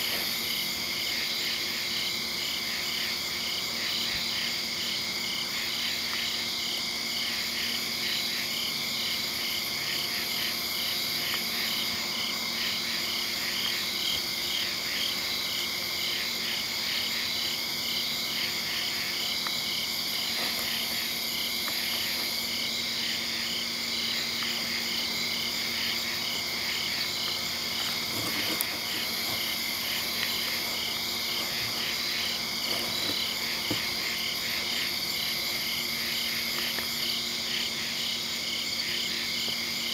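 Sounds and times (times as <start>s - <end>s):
pulsing insect or frog call: 0.0s - 39.9s.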